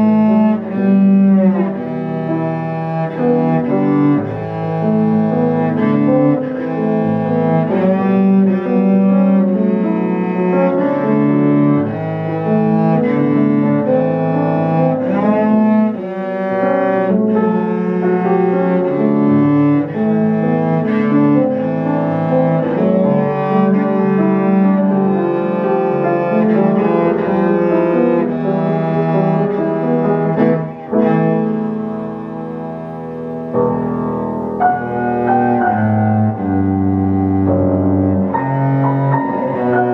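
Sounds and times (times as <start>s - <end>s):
bowed cello melody: 0.0s - 39.9s
piano: 0.0s - 39.9s.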